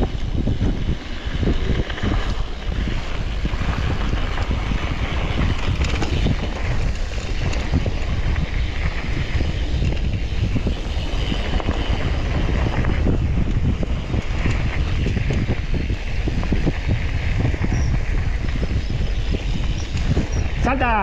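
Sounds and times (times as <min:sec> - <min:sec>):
bike clicks and rattles: 0:00.0 - 0:21.0
tyres rumbling over dirt: 0:00.0 - 0:21.0
wind buffeting microphone: 0:00.0 - 0:21.0.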